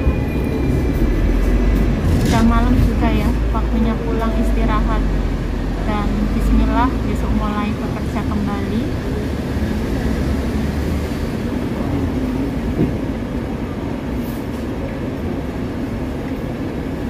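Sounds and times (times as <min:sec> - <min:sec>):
tram rumbling: 0:00.0 - 0:17.0.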